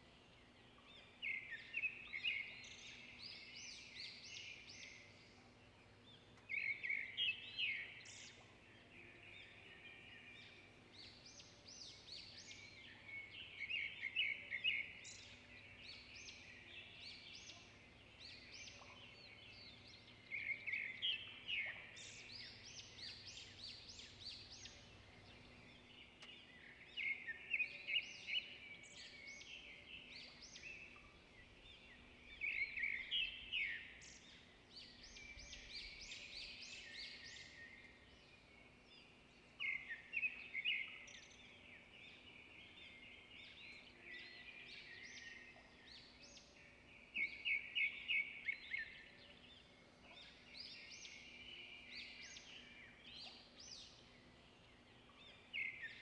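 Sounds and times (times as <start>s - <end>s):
faint outdoor background noise: 0.0s - 56.0s
wild birds chirping: 0.0s - 56.0s.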